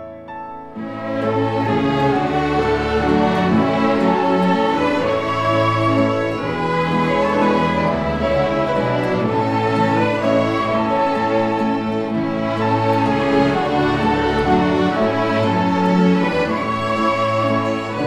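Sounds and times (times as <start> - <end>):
string orchestra playing a hymn: 0.7 - 18.0.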